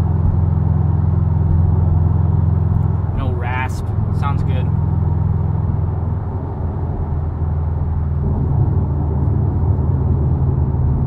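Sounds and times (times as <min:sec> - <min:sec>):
low exhaust drone: 0:00.0 - 0:11.0
road noise: 0:00.0 - 0:11.0.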